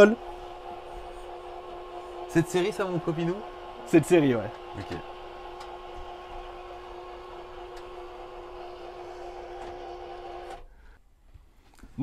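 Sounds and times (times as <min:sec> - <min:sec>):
electric blind motor humming: 0:00.0 - 0:10.9.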